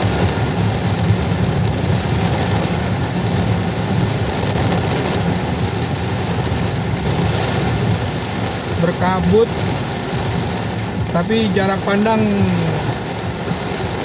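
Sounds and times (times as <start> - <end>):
engine and tyre noise on wet road: 0.0 - 14.0
rain on car roof: 0.0 - 14.0.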